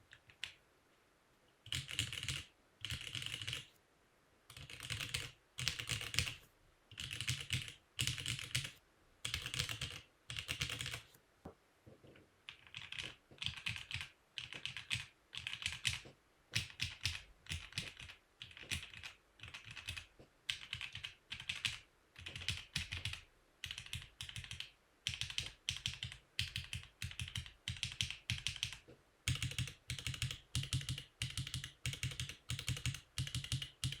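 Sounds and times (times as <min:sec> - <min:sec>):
mechanical keyboard typing: 0:01.7 - 0:03.7, 0:04.5 - 0:11.1, 0:12.5 - 0:34.0.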